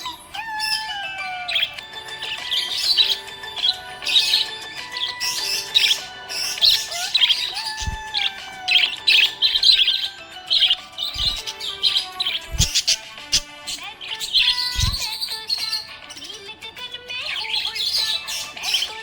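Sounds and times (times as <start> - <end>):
background music with held notes: 0.0 - 19.0
budgerigar chirping and warbling: 0.0 - 19.0.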